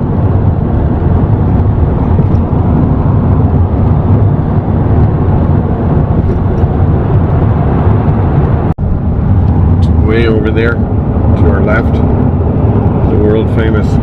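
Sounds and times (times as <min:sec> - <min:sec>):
road and tyre noise inside car: 0:00.0 - 0:14.0.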